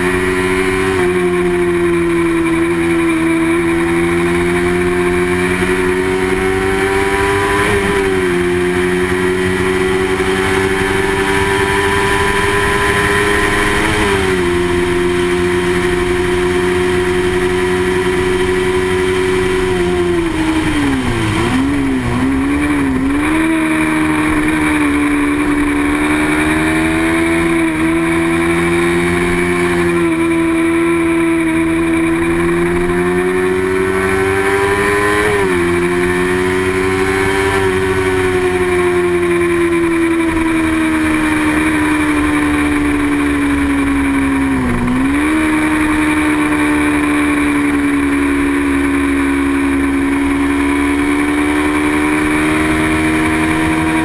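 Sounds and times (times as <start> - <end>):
racing motorcycle engine high revs: 0.0 - 54.0.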